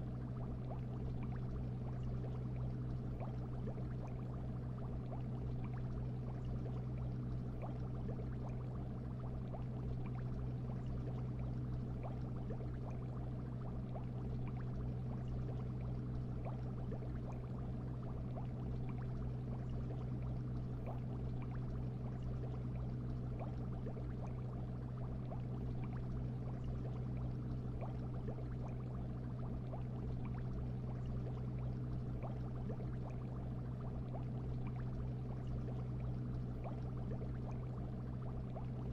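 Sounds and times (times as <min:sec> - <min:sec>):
fine bubbling crackle: 0:00.0 - 0:38.9
low hum: 0:00.0 - 0:38.9.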